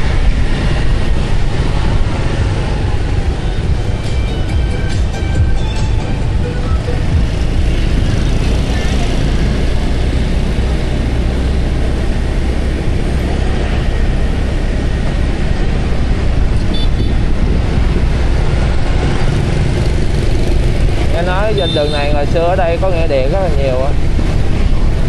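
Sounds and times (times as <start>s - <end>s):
passing scooters and cars: 0.0s - 25.0s
road and wind noise: 0.0s - 25.0s.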